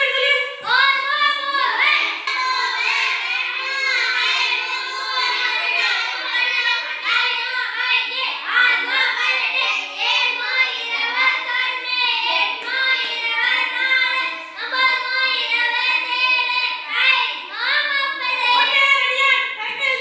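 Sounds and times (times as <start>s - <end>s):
children chanting: 0.0s - 20.0s.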